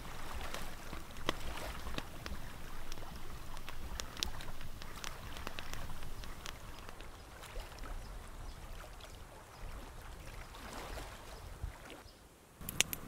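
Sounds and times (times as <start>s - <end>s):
small waves lapping on rocks: 0.0s - 12.1s
wind rumbling on microphone: 0.0s - 13.0s.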